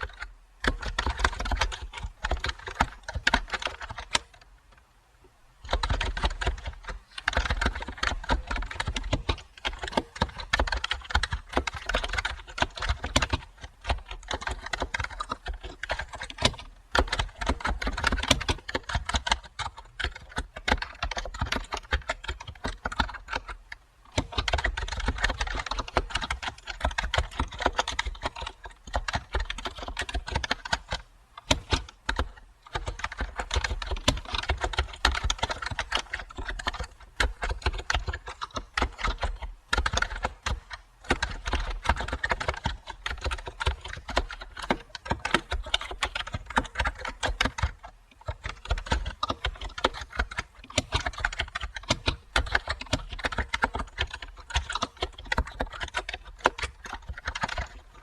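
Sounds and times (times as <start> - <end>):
typing on computer keyboard: 0.0 - 4.4, 5.6 - 58.0.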